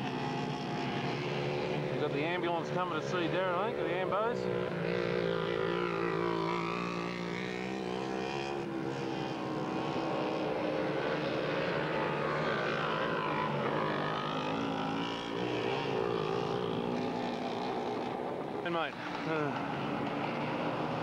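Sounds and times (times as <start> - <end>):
mini bike engines revving: 0.0 - 21.0.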